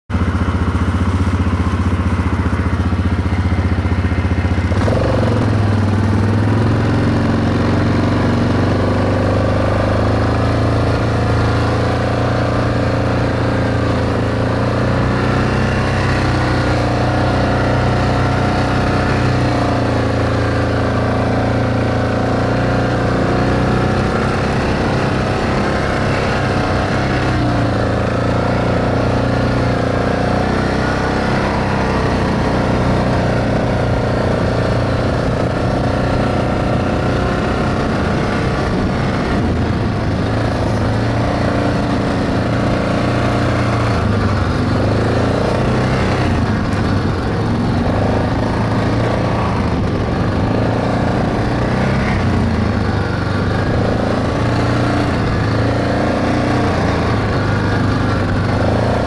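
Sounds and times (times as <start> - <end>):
atv engine running: 0.1 - 59.0.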